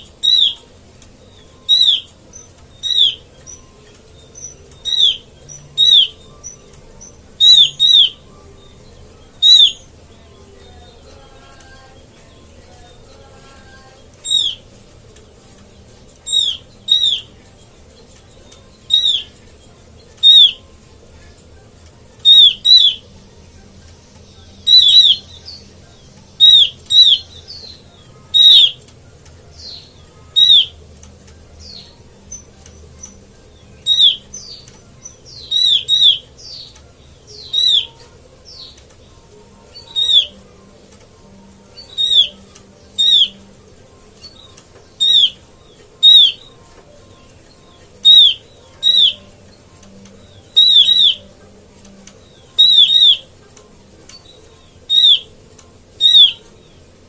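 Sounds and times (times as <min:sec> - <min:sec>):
faint higher notes: 0:00.0 - 0:57.0.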